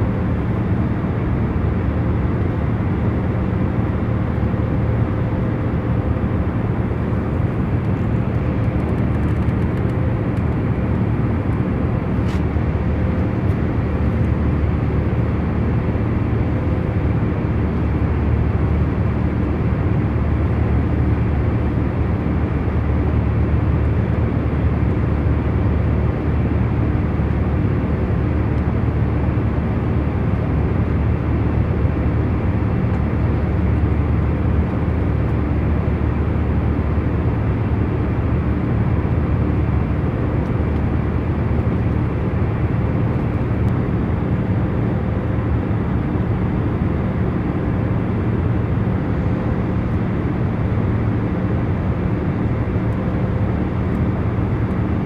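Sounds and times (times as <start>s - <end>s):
airliner cabin engine hum: 0.0s - 55.0s.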